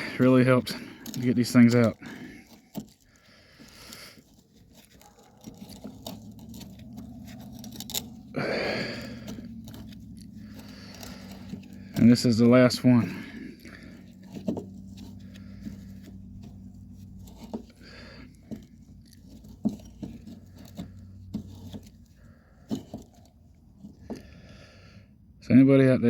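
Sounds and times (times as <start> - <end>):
hand tools clicking and scraping: 0.0 - 24.7.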